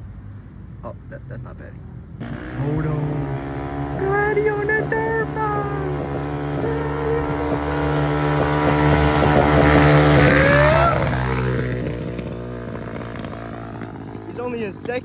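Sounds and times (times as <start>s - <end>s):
dirt bike engine riding by: 2.2s - 15.0s.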